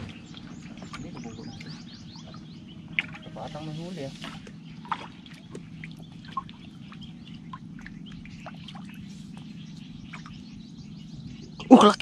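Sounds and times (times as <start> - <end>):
low steady hum: 0.0 - 12.0
small birds chirping: 0.0 - 12.0.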